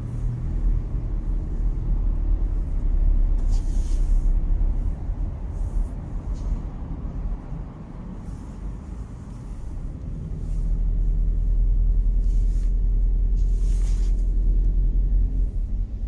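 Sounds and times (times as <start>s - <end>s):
road rumble inside car: 0.0s - 16.0s.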